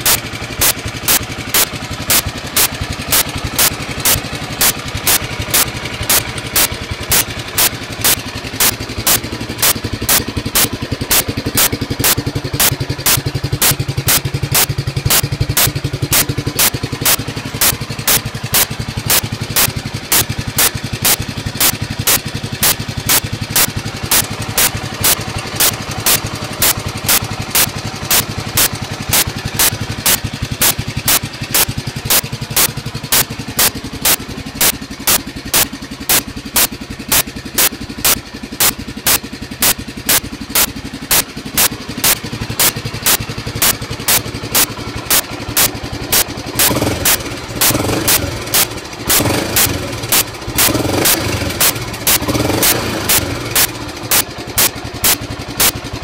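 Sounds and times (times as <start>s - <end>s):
motorcycle engine idling: 0.0s - 56.0s
sharp ticks: 0.0s - 56.0s.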